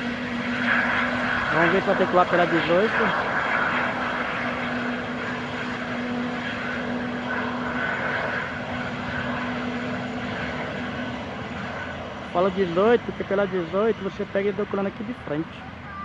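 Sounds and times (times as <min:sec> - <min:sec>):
jet engines running at taxi power: 0:00.0 - 0:16.0.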